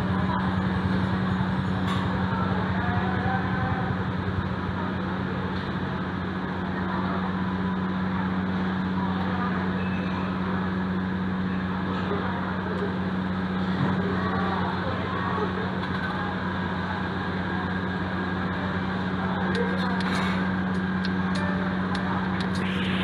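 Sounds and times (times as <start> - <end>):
faint voices of diners: 0.0 - 23.0
steady low hum: 0.0 - 23.0.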